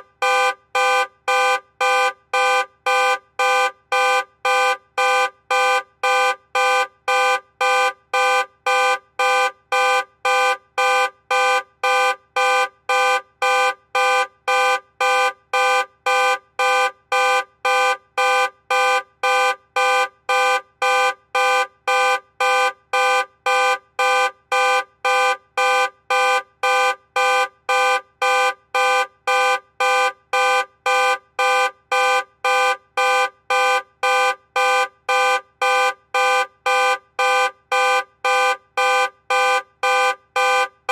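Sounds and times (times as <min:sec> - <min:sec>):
car alarm honking: 0:00.2 - 0:40.9.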